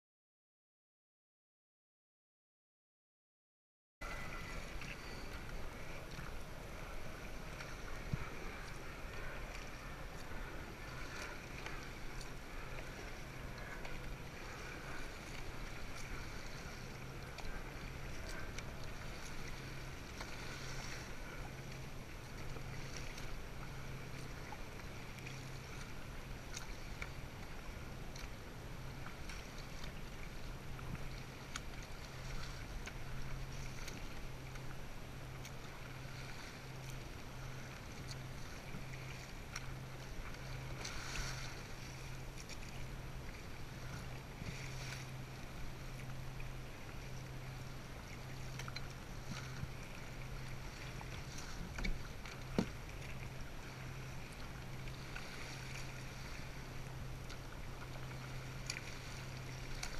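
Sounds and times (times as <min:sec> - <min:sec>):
low steady hum: 0:04.0 - 0:59.9
paddle strokes: 0:04.0 - 0:59.9
water sloshing against kayak: 0:04.0 - 0:59.9.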